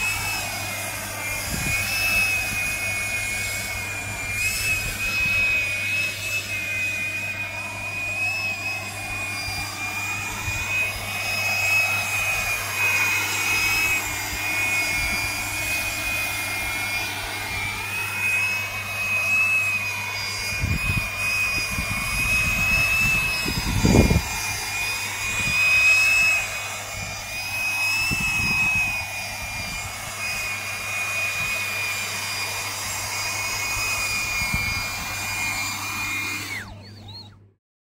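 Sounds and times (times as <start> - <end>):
multicopter propellers whining: 0.0 - 37.5.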